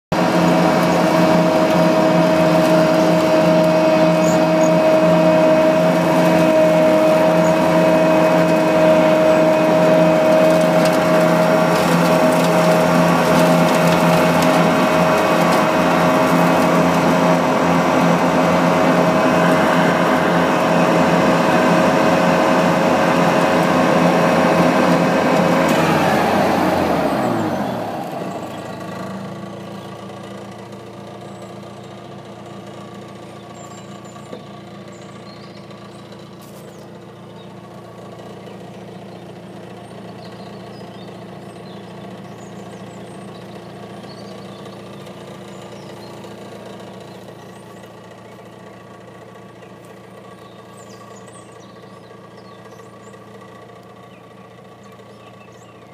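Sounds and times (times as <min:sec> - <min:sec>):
engine running and throttling down: 0:00.0 - 0:55.9.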